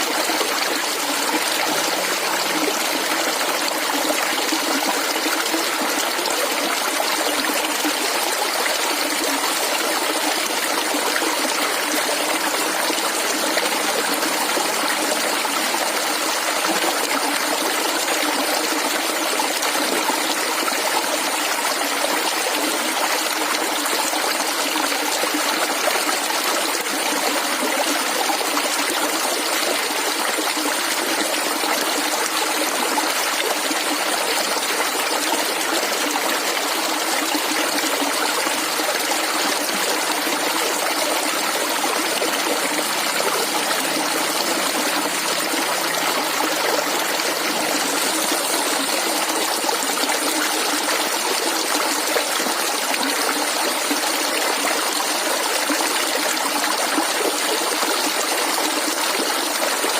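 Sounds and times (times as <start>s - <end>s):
stream water flowing and gurgling: 0.0s - 59.9s.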